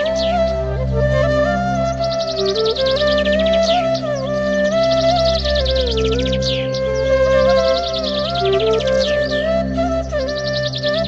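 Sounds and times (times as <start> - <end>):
gliding melody: 0.0 - 11.0.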